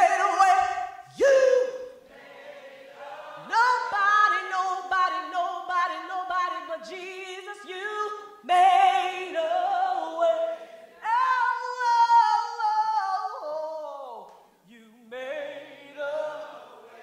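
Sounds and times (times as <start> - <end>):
woman singing gospel unaccompanied: 0.0 - 2.0, 3.4 - 17.0.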